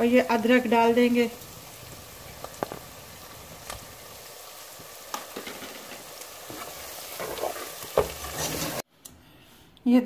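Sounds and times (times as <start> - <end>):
lentils sizzling in oil: 0.0 - 8.9.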